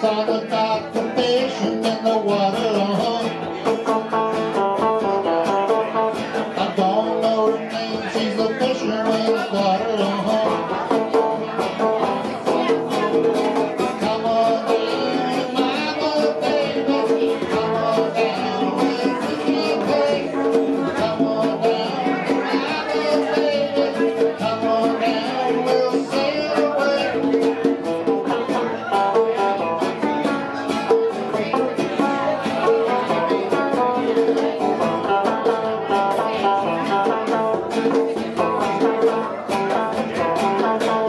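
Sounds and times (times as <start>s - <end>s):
conga drums: 0.0s - 41.0s
live band playing pop song: 0.0s - 41.0s
strummed guitars: 0.0s - 41.0s
upright bass: 0.0s - 41.0s.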